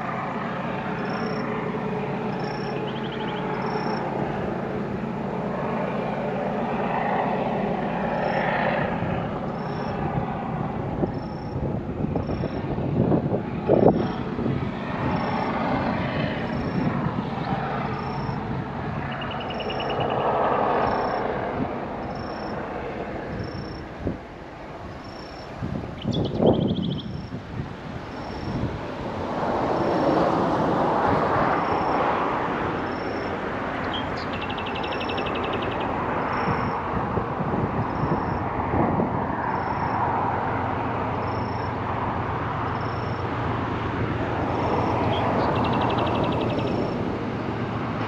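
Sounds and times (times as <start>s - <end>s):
wind gusts on microphone: 0.0s - 48.0s.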